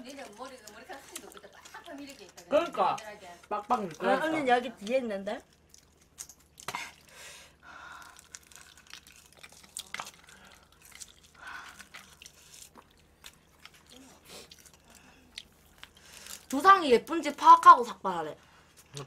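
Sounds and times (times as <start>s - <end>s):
biting and chewing food: 0.0s - 7.2s, 7.9s - 16.7s.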